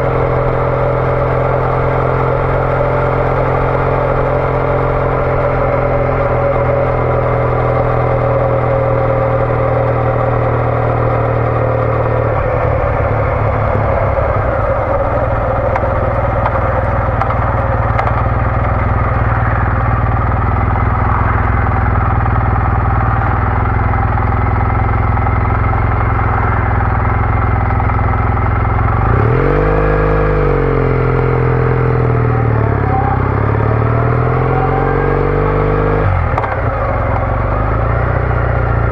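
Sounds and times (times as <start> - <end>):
motorcycle engine revving: 0.0 - 38.9
steady rush: 0.0 - 38.9.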